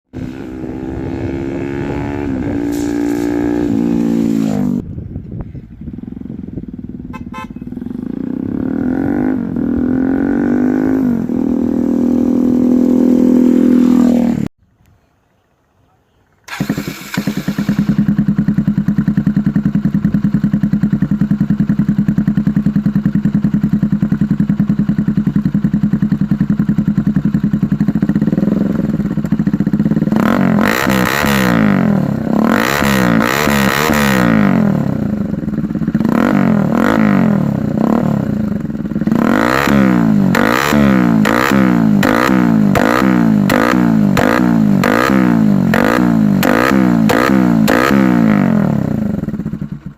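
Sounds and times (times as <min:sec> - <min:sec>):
motorcycle engine revving: 0:00.1 - 0:05.0, 0:05.6 - 0:14.5, 0:16.4 - 0:49.9.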